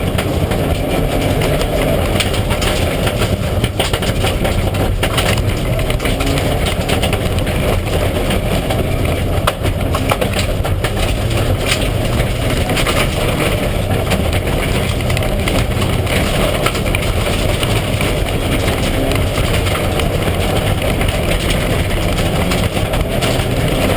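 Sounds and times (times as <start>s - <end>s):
car engine running at low revs: 0.0s - 23.9s
sharp clicks and rattles: 0.0s - 23.9s.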